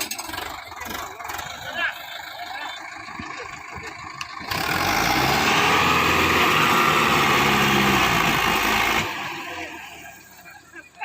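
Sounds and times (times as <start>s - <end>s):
tractor diesel engine running hard: 0.0s - 11.0s.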